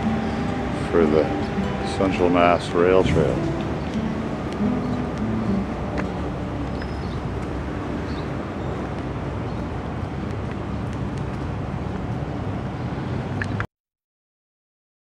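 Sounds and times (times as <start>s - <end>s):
road traffic rumble: 0.0s - 13.7s.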